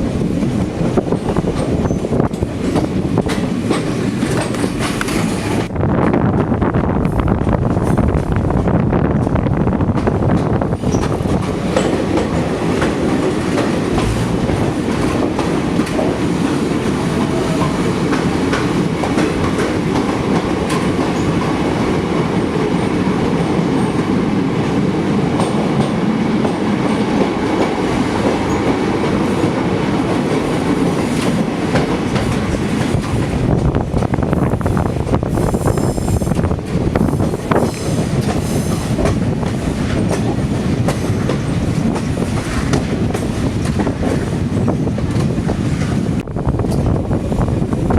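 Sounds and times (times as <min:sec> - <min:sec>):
train rumbling: 0:00.0 - 0:47.9
wheels clattering on rails: 0:00.4 - 0:06.5, 0:07.5 - 0:21.9, 0:22.5 - 0:47.9.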